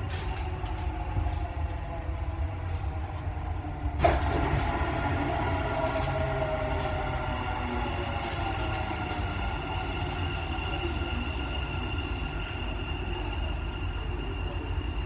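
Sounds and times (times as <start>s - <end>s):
train rumbling with high whine: 0.0s - 15.0s.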